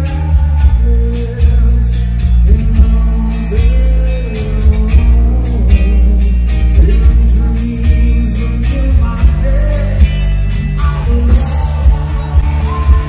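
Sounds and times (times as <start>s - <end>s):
bass guitar: 0.0s - 13.0s
drums: 0.0s - 13.0s
electric guitars: 0.0s - 13.0s
man singing: 0.0s - 13.0s.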